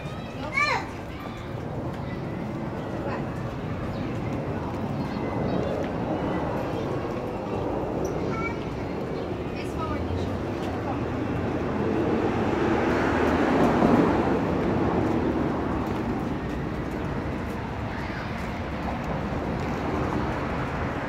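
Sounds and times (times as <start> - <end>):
traffic rumble: 0.0 - 21.0
vehicle passing: 0.0 - 21.0.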